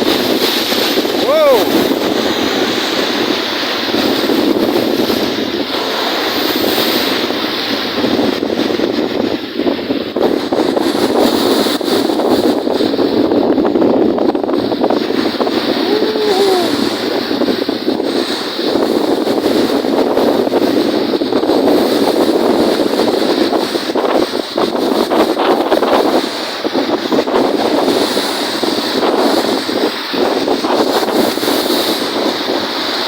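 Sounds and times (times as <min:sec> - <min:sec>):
choppy lake waves: 0:00.0 - 0:33.0
strong wind on microphone: 0:00.0 - 0:33.0.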